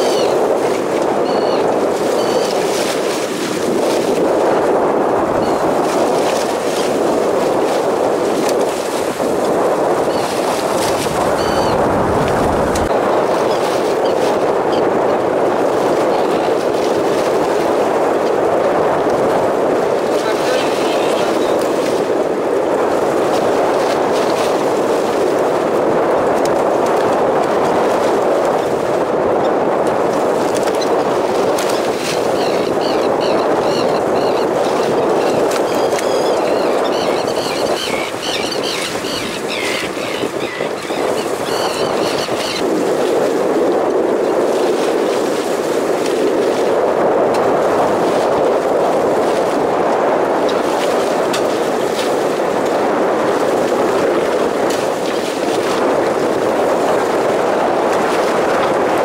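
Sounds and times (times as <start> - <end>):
water rushing: 0.0 - 25.5, 29.7 - 53.6
wind: 0.0 - 59.0.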